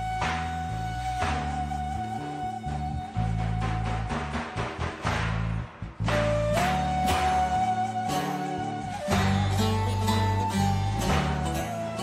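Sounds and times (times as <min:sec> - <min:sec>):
bass line: 0:00.0 - 0:12.0.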